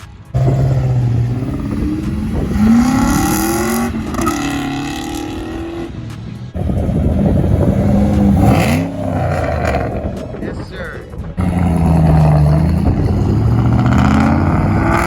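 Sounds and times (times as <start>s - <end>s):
car engines accelerating: 0.0s - 15.0s.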